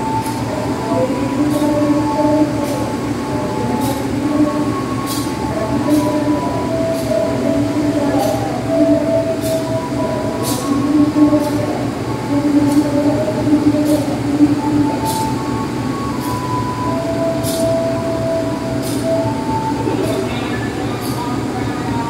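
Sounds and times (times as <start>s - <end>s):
train coaches rumbling: 0.0s - 22.0s.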